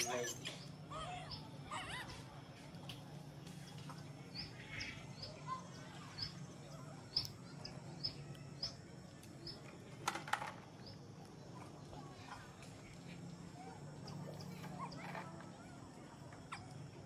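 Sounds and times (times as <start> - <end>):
low steady hum: 0.0 - 17.0
small bird chirping: 0.0 - 17.0.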